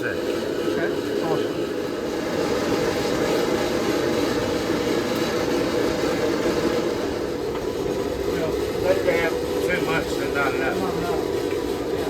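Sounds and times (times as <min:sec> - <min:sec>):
forge burner rushing: 0:00.0 - 0:12.0.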